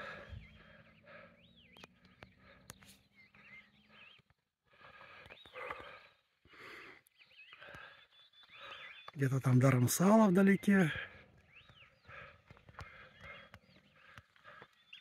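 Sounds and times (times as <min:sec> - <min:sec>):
faint whistled birdsong: 0:00.0 - 0:15.0.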